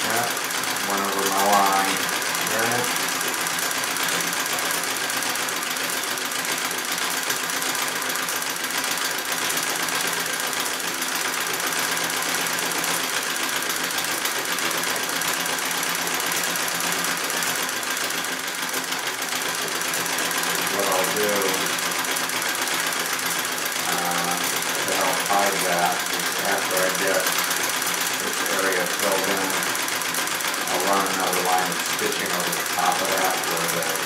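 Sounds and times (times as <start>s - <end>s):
treadle sewing machine clatter: 0.0s - 34.0s.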